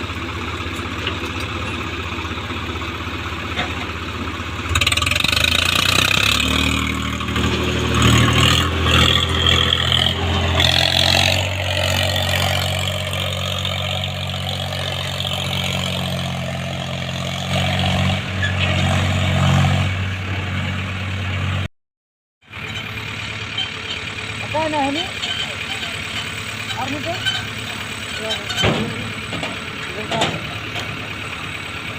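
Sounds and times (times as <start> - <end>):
heavy diesel engine droning: 0.0 - 21.7, 22.4 - 31.9.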